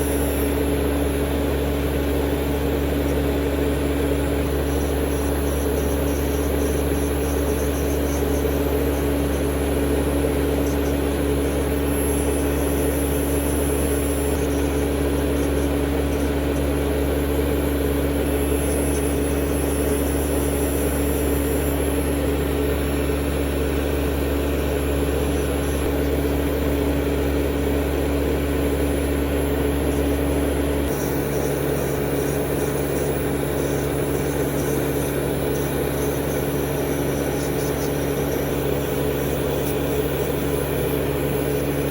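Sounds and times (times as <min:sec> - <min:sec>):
dust extractor hum: 0:00.0 - 0:41.9
nail drill whine: 0:00.0 - 0:41.9.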